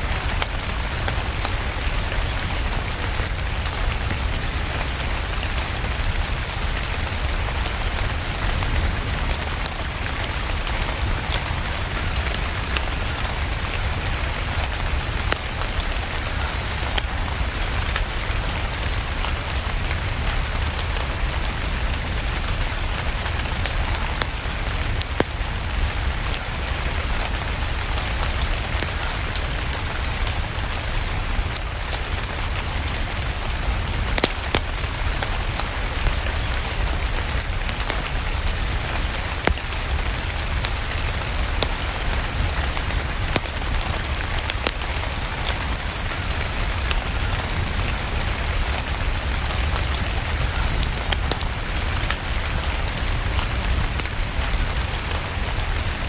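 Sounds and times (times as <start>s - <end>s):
fireplace fire crackling: 0.0s - 56.0s
steady rain: 0.0s - 56.0s.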